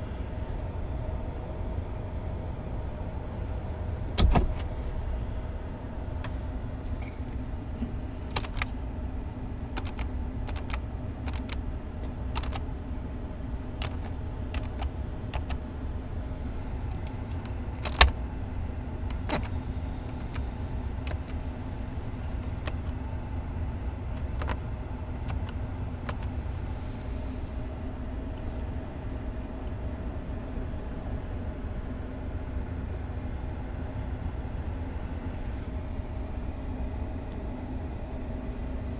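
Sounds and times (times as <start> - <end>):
engine hum inside cab: 0.0 - 38.9.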